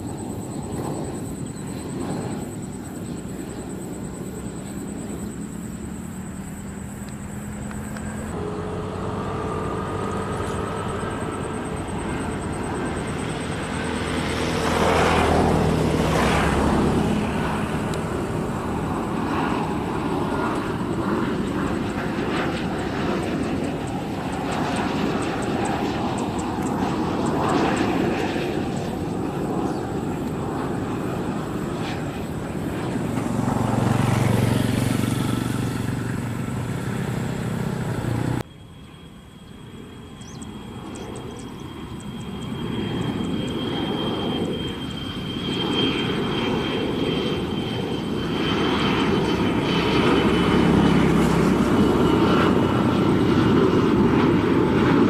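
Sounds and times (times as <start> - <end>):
airliner after touchdown: 0.0 - 55.0
jet engine roar with whine: 0.0 - 55.0.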